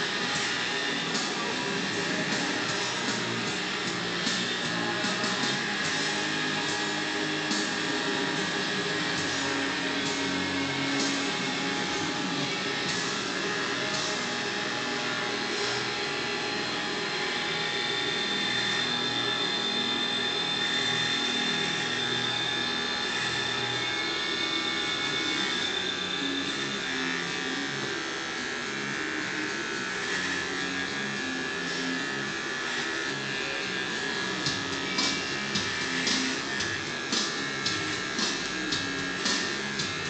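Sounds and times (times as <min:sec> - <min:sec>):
electric hair clippers buzzing: 0:00.0 - 0:40.0.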